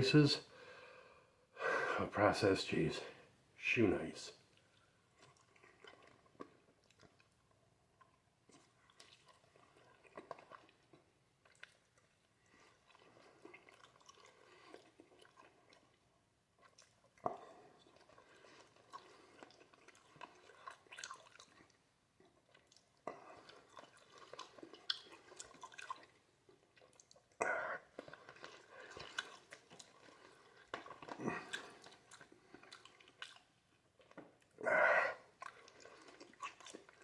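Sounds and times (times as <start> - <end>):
wet chewing and mouth smacks: 4.5 - 37.0.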